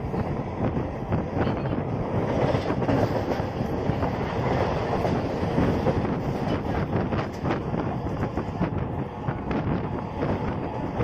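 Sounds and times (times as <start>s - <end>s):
train rumbling and rattling: 0.0s - 11.0s
wind rushing past: 0.0s - 11.0s.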